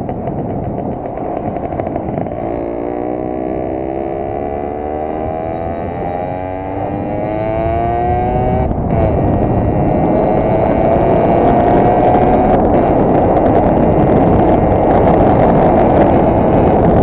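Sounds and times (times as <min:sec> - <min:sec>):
moped engine accelerating: 0:00.0 - 0:17.0
wind noise on microphone: 0:00.0 - 0:17.0.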